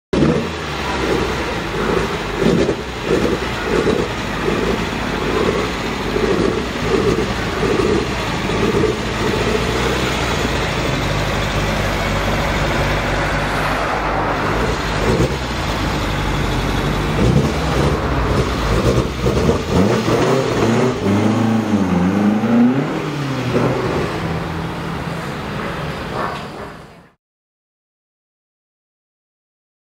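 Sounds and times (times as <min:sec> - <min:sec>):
car engine revving: 0:00.2 - 0:26.6.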